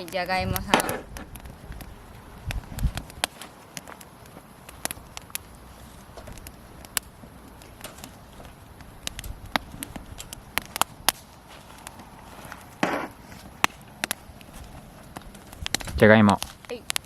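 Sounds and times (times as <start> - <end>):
fire popping: 0.0 - 17.0
rustle: 0.0 - 17.0
wood fire crackling: 0.0 - 17.0.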